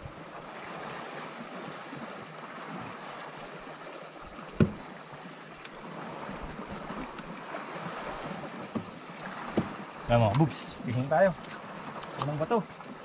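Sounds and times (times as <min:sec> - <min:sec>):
waves lapping on rocky shore: 0:00.0 - 0:13.0.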